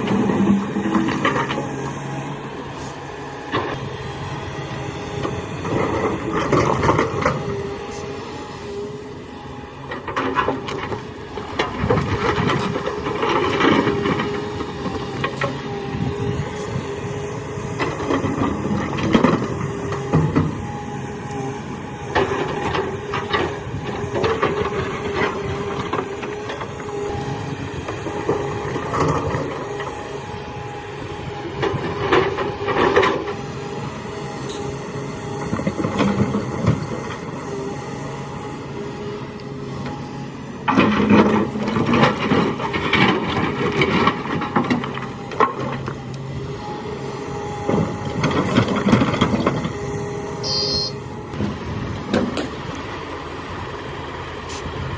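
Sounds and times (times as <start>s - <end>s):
excavator diesel engine: 0.0s - 54.9s.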